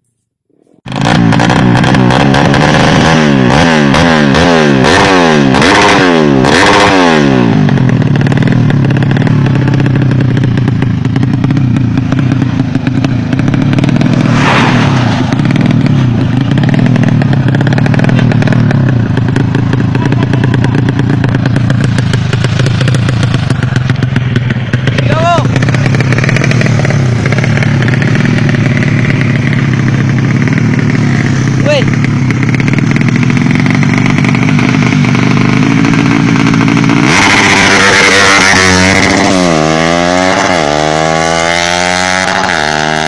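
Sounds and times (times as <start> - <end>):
racing motorcycle engine revving: 0.8 - 43.0.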